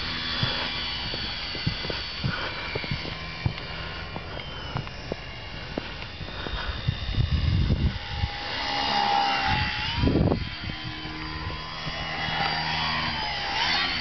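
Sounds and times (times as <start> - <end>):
electric motor and propeller whining: 0.0 - 14.0.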